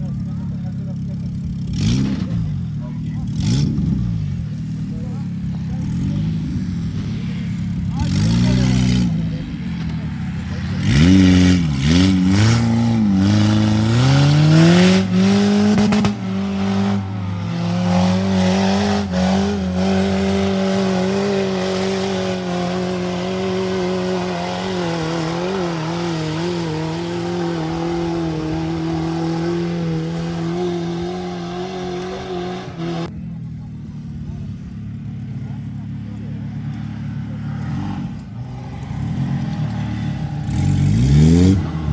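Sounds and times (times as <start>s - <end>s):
off-road vehicle engine revving: 0.0s - 41.9s.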